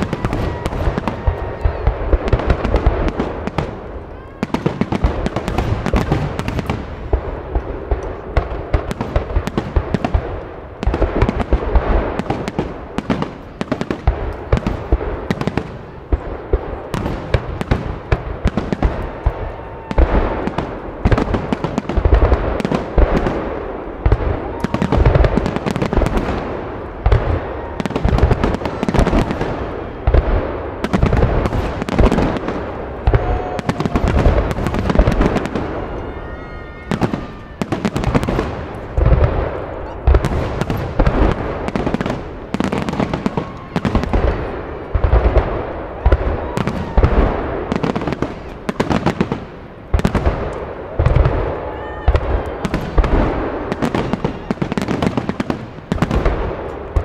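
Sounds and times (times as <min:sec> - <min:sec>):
firework crackles: 0:00.0 - 0:57.0.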